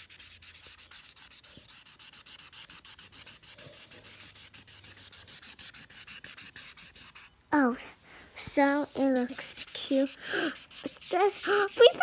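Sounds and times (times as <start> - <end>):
marker scrubbing on paper: 0.0 - 7.7, 8.4 - 12.0.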